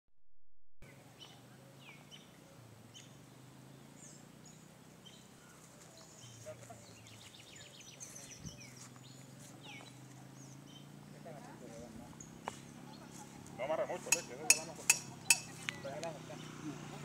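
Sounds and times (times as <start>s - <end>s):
birds chirping: 0.8s - 17.0s.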